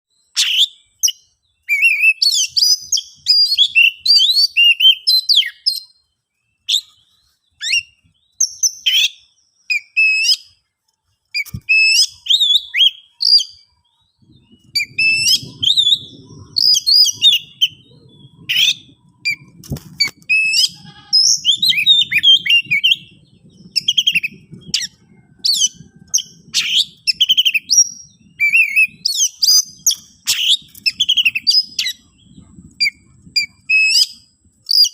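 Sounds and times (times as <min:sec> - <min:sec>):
bird singing whistles and chirps: 0:00.1 - 0:10.6, 0:11.2 - 0:34.9.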